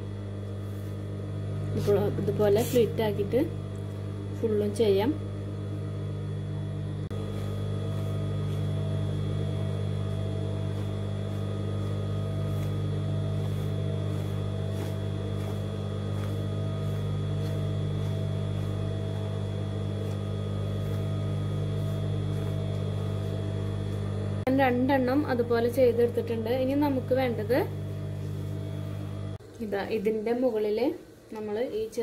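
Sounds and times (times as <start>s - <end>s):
electric motor hum: 0.0s - 30.7s.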